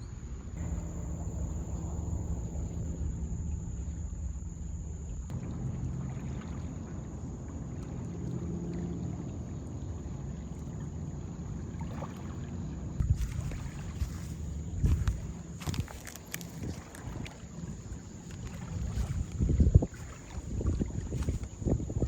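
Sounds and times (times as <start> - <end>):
boat motor droning: 0.1 - 22.0.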